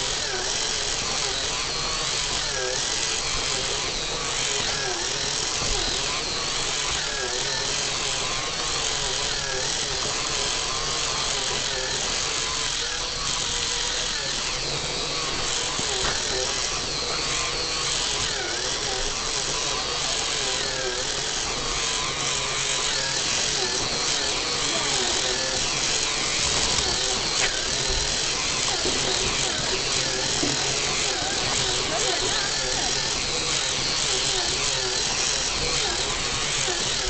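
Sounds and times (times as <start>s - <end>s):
toy car motor whirring: 0.0s - 37.0s.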